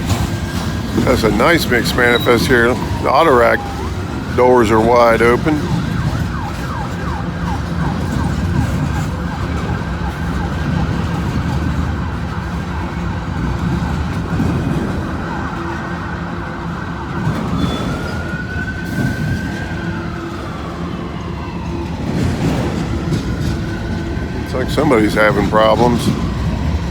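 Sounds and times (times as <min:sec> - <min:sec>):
freight train cars rolling past: 0:00.0 - 0:20.6, 0:21.2 - 0:26.9
emergency vehicle siren: 0:00.0 - 0:26.9.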